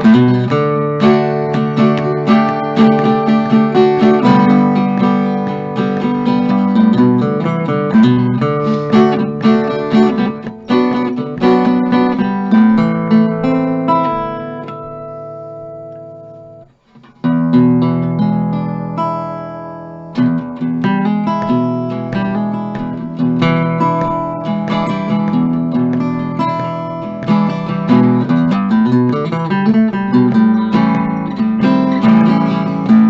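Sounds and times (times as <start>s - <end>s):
guitar chords plucked: 0.0s - 33.0s.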